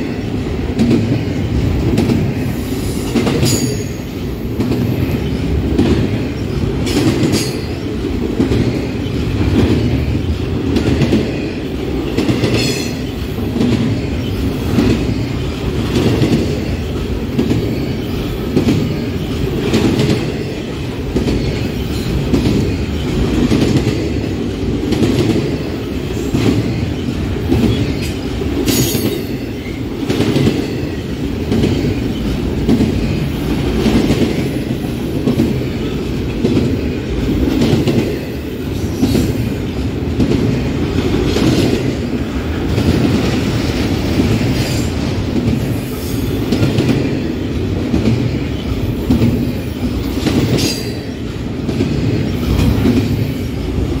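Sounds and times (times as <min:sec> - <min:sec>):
train wheels clattering over rail joints: 0:00.7 - 0:54.0.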